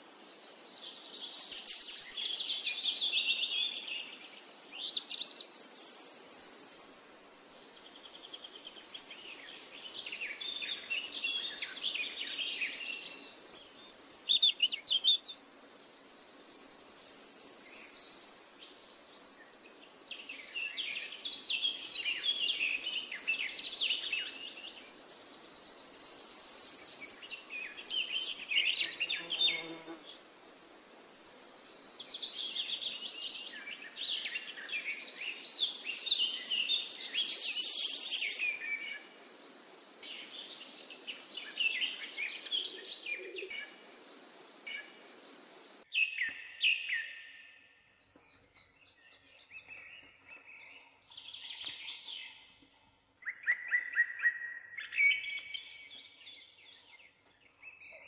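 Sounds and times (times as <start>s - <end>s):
birds chirping and singing: 8.3s - 15.5s, 17.0s - 30.0s, 31.1s - 58.0s.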